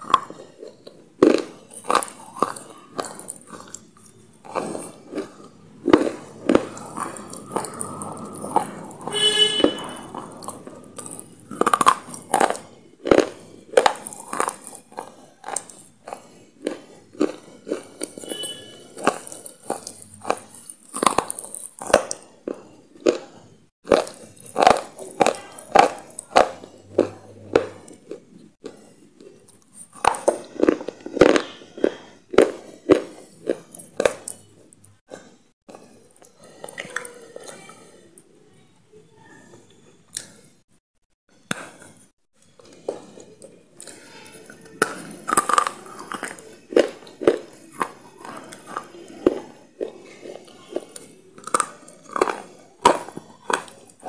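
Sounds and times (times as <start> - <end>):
person chewing crunchy food: 0.0 - 38.3, 41.4 - 54.0.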